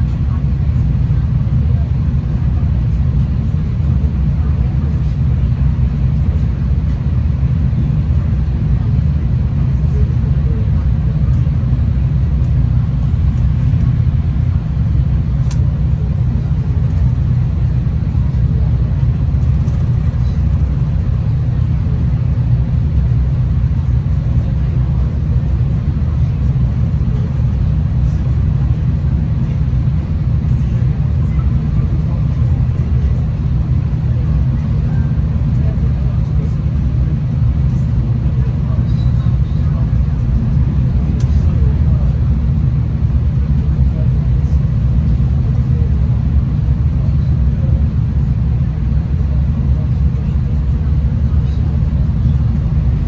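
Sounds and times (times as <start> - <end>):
train rumbling along track: 0.0 - 53.0.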